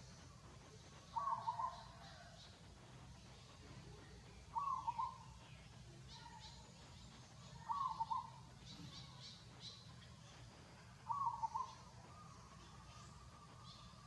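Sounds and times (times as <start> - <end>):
faint high chirps: 0.0 - 14.0.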